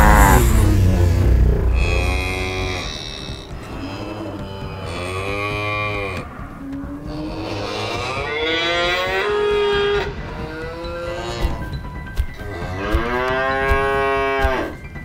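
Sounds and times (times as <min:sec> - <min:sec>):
cows mooing: 0:01.6 - 0:11.7, 0:12.4 - 0:14.7.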